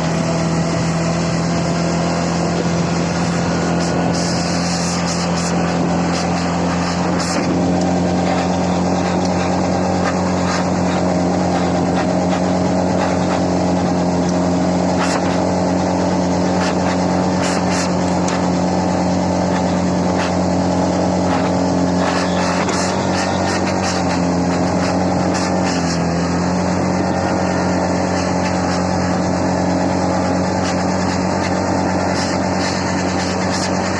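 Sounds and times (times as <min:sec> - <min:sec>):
atv engine running: 0:00.0 - 0:33.9.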